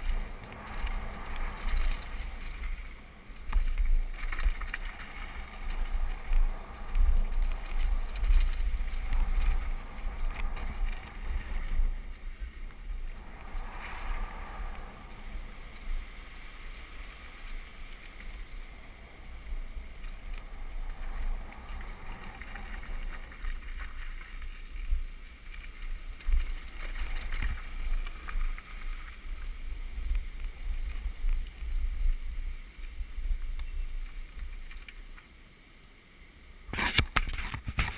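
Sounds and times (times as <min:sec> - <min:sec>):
wind buffeting microphone: 0:00.0 - 0:34.5
bike tyres rattling on gravel: 0:00.0 - 0:35.2.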